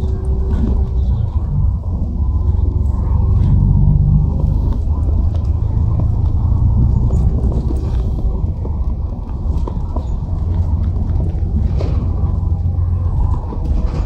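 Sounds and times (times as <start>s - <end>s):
faint clicks and rattles: 0.0s - 14.0s
vehicle engine rumble: 0.0s - 14.0s.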